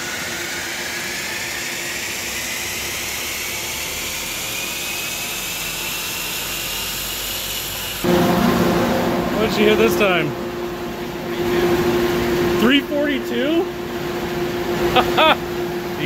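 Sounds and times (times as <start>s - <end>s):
engine at full throttle: 0.0s - 15.8s
dyno rollers: 0.0s - 16.0s
rising whine: 0.0s - 16.0s.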